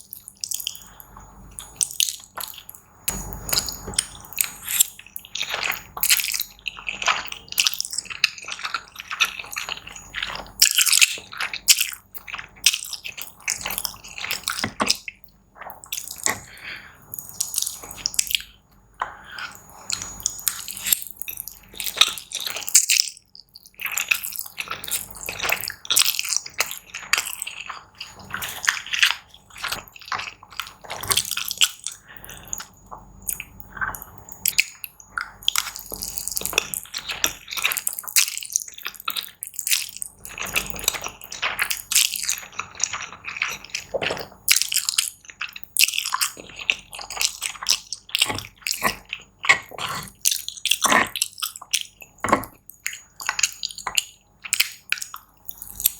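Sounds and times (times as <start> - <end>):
wet chewing and slurping: 0.0 - 55.9.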